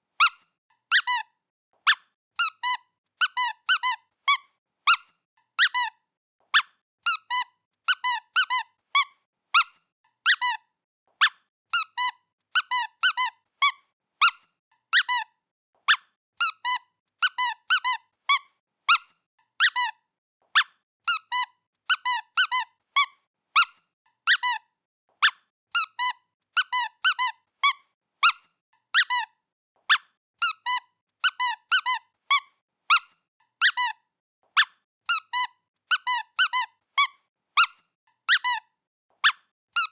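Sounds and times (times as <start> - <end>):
squeaky toy squeaking: 0.2 - 34.0, 34.6 - 39.9.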